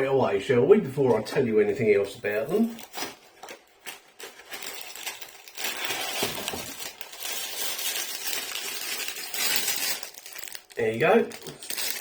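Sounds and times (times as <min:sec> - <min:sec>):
packaging rustling: 0:02.2 - 0:12.0.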